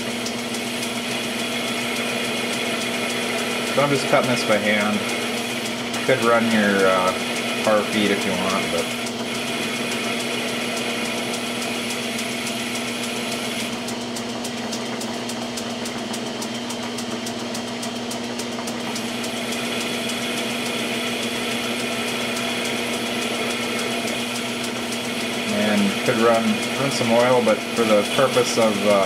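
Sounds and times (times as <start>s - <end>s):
lathe motor hum: 0.0s - 29.0s.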